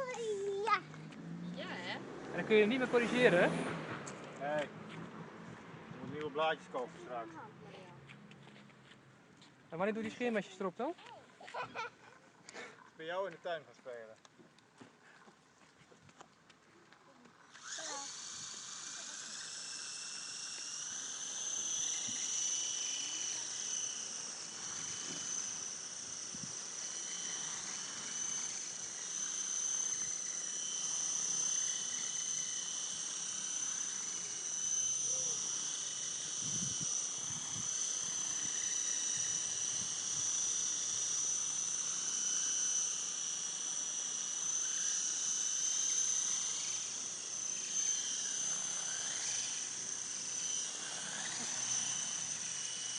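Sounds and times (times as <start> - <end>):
rc helicopter rotor whine: 0.0 - 8.8, 9.7 - 14.2, 16.0 - 52.9.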